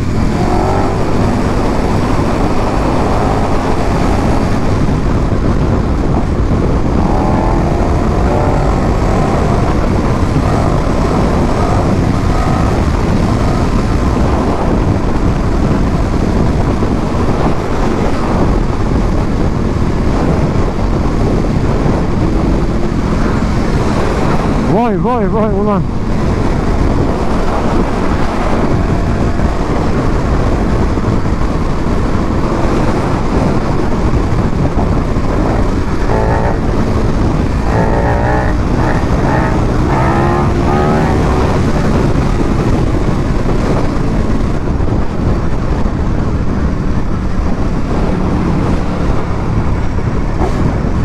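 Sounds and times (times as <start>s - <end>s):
motorcycle engine running: 0.0s - 51.0s
wind rushing over microphone: 0.0s - 51.0s.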